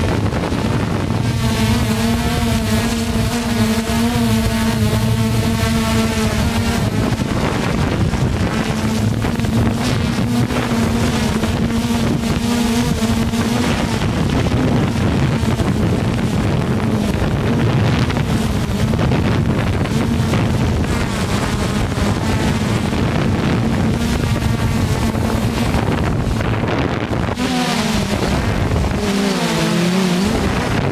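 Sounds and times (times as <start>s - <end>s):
drone motors humming: 0.0s - 30.9s
propeller wash buffeting microphone: 0.0s - 30.9s.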